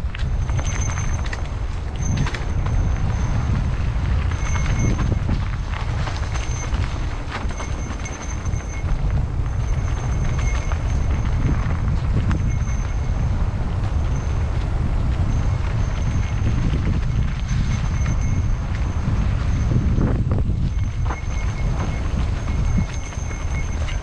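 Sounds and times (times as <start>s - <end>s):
bike clicks and rattles: 0.0s - 24.0s
wind buffeting microphone: 0.0s - 24.0s.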